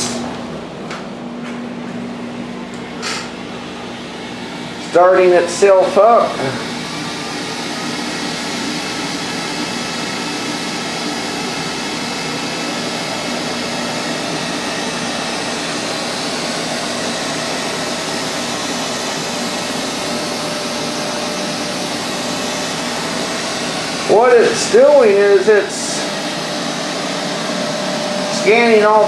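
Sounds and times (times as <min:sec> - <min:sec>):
robotic vacuum humming: 0:00.0 - 0:29.0.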